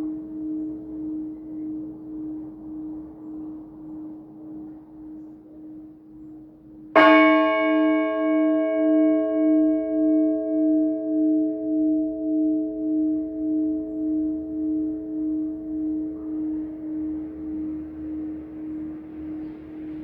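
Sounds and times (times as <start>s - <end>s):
church bell ringing: 0.0s - 20.0s.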